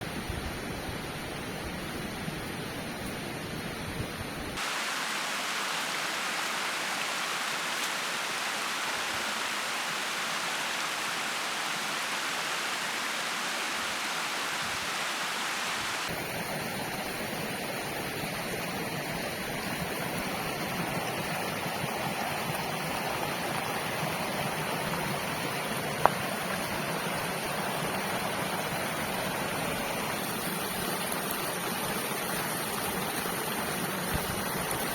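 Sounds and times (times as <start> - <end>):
river water rushing: 4.6 - 34.9.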